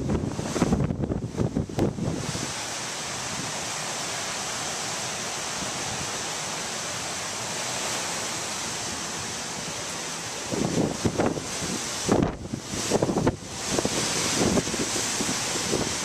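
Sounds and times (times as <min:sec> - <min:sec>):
rough sea breaking on beach: 0:00.0 - 0:16.0.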